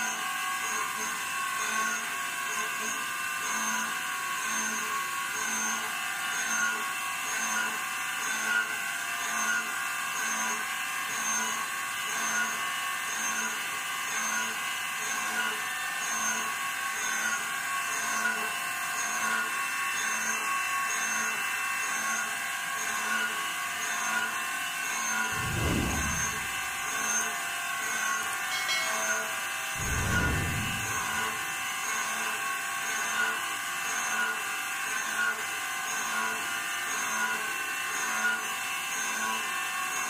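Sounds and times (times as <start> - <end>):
router cutting metal whine: 0.0 - 40.0.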